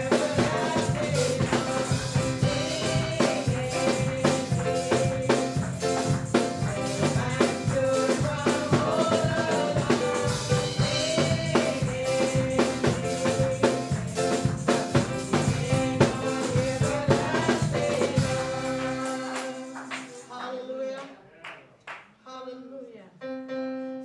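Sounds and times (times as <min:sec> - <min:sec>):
drum beat: 0:00.0 - 0:20.3
tambourine: 0:00.0 - 0:20.4
worship music: 0:00.0 - 0:21.2.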